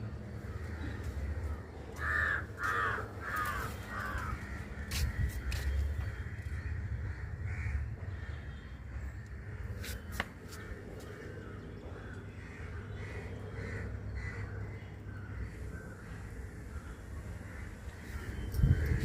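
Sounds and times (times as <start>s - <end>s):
birds calling repeated notes: 0.2s - 19.0s.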